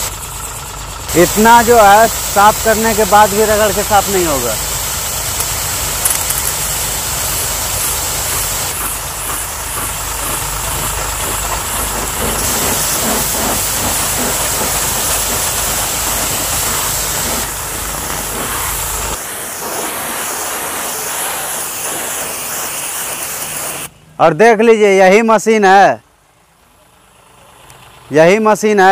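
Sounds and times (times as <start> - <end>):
pressure washer spraying water: 0.0 - 23.9
pump motor hum: 0.0 - 23.9.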